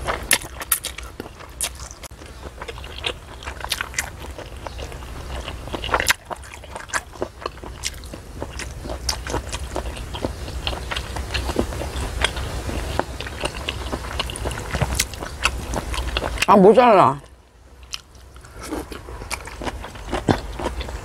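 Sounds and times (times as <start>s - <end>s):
wet chewing and crunching: 0.0s - 21.0s.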